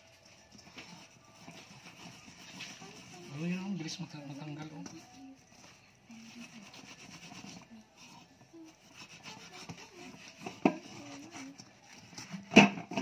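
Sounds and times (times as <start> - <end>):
fingers scraping paste on pan: 0.0 - 13.0.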